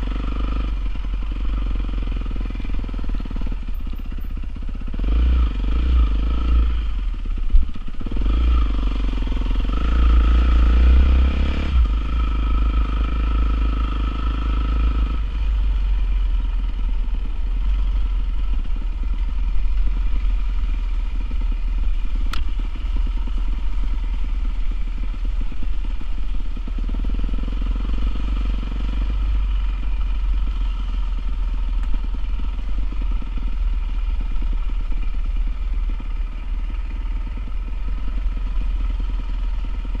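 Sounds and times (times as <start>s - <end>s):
motocross bike engine running: 0.0s - 40.0s.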